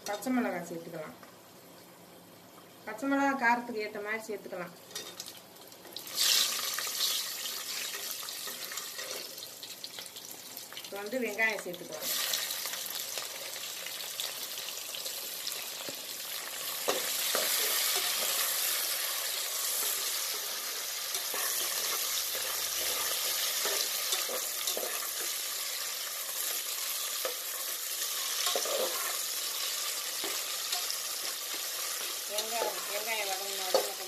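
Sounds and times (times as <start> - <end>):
onions sizzling in hot oil: 4.8 - 34.0.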